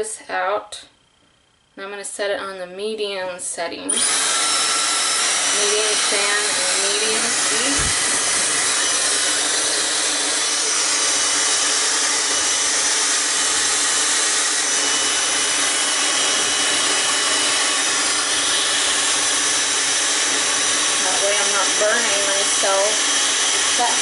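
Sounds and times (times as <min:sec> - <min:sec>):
hair dryer blowing: 0:03.9 - 0:24.0.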